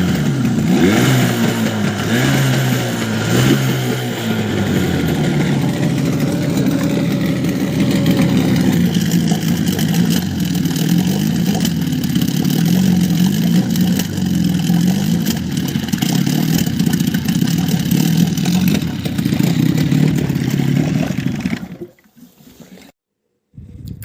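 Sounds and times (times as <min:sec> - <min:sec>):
outboard motor running unevenly: 0:00.0 - 0:22.0.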